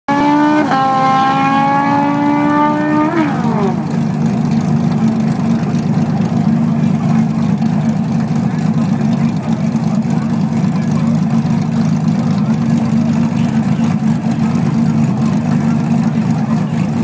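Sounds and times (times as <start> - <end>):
racing car engine revving: 0.1 - 17.0
low idling engine rumble: 0.2 - 17.0.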